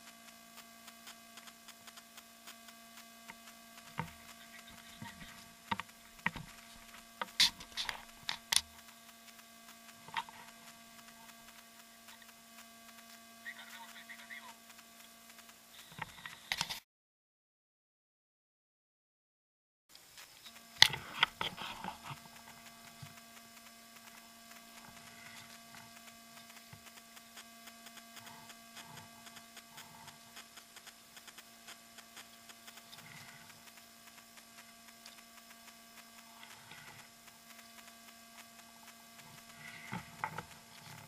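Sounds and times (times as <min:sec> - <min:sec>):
faint clicks and rustles: 0:00.0 - 0:16.8, 0:19.9 - 0:41.0
steady electrical hum: 0:00.0 - 0:16.8, 0:19.9 - 0:41.0.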